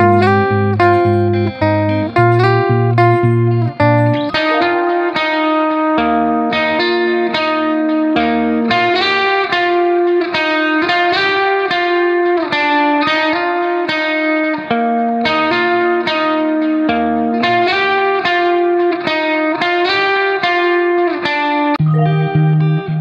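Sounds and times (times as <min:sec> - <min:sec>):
plucked guitar melody: 0:00.0 - 0:23.0.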